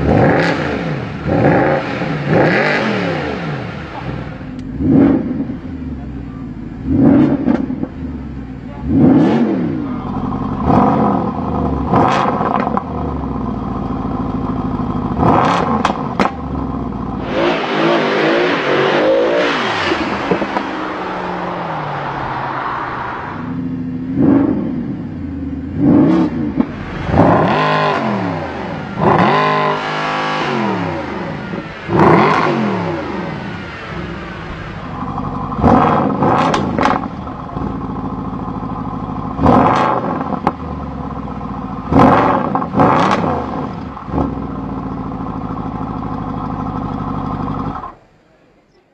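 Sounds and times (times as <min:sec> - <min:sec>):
car engine revving: 0:00.0 - 0:48.2.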